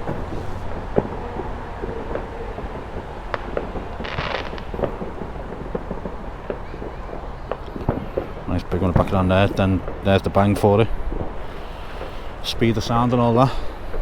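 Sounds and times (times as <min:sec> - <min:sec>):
crackling hiss: 0:00.0 - 0:14.0
distant fireworks bangs and pops: 0:00.0 - 0:14.0.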